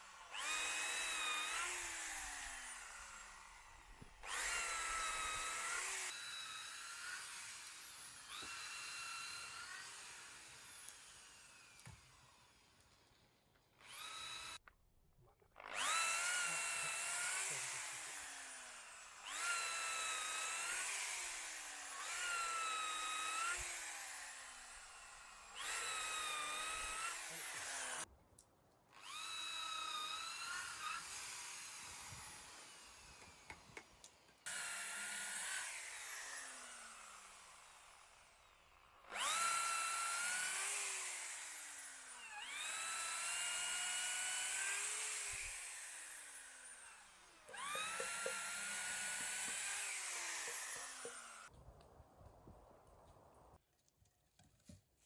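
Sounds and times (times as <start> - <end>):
electric drill boring into wood: 0.0 - 12.4, 13.8 - 14.6, 15.6 - 28.1, 29.0 - 33.9, 34.5 - 51.5.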